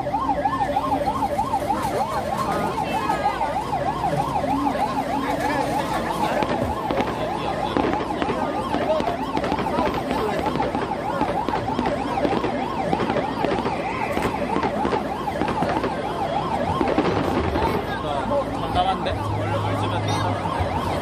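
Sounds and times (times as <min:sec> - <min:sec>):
ambulance siren yelping: 0:00.0 - 0:21.0.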